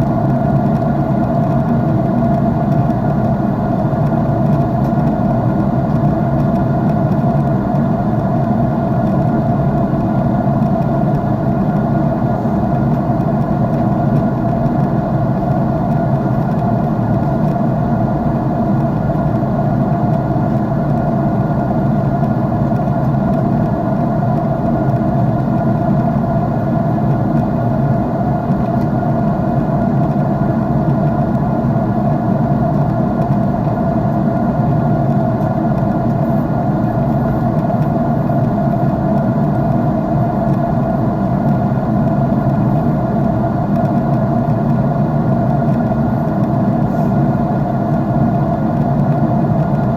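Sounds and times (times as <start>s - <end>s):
jet engine drone inside cabin: 0.0s - 49.9s.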